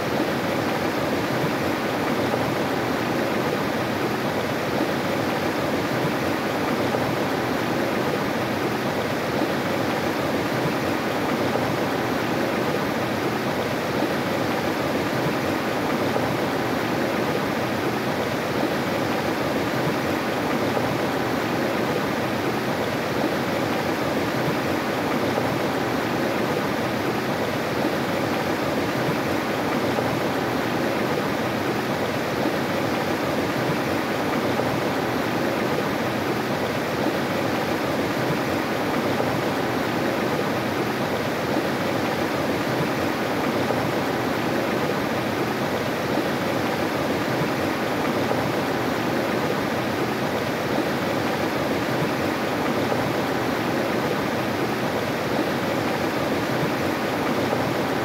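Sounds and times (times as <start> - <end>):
river rushing over rocks: 0.2 - 58.0.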